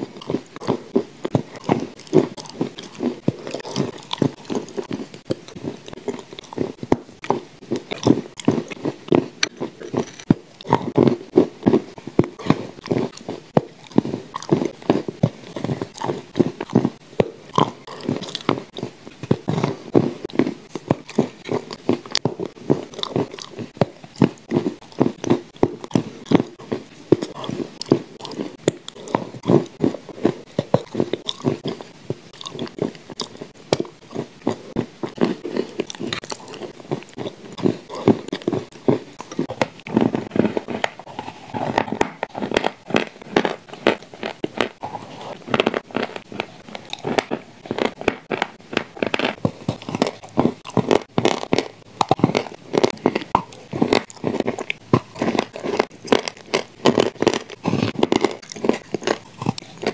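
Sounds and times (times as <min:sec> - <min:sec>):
crunching and chewing cookies: 0:00.0 - 0:59.9.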